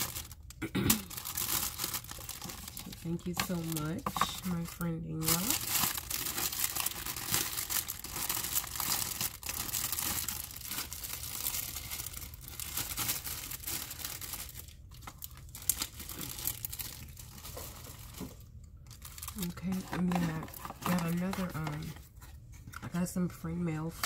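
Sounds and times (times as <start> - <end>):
packaging crinkling: 0.0 - 23.0.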